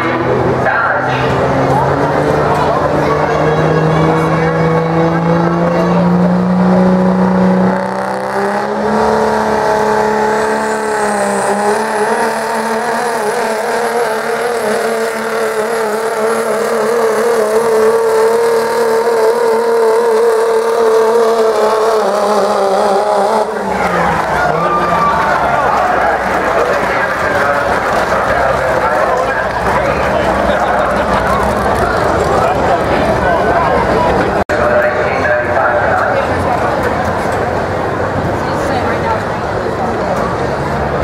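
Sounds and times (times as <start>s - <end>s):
diesel engine revving under load: 0.0s - 41.0s.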